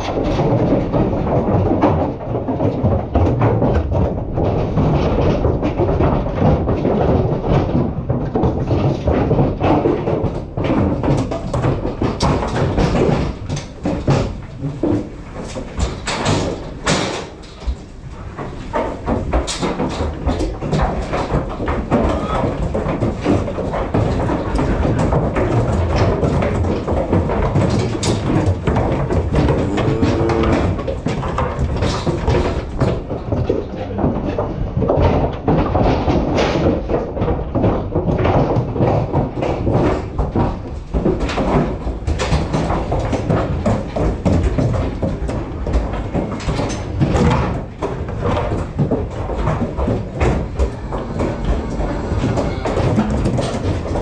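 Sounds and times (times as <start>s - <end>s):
knocks thuds and clatter: 0.0s - 54.0s.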